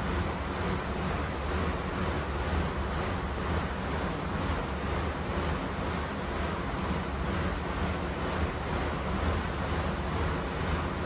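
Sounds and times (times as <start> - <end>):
exercise bike fan spinning: 0.0 - 11.0.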